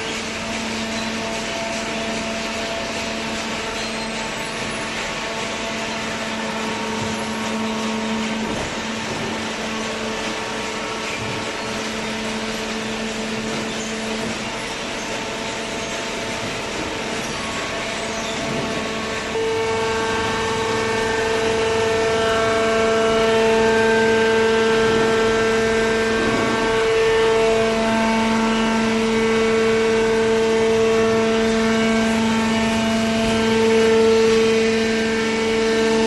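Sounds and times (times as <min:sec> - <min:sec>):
hydraulic pump and motor whine: 0:00.0 - 0:36.0.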